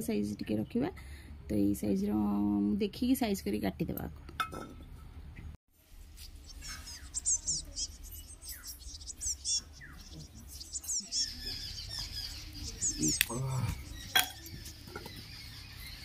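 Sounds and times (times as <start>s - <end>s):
small birds chirping: 0.0s - 2.6s, 5.2s - 16.0s.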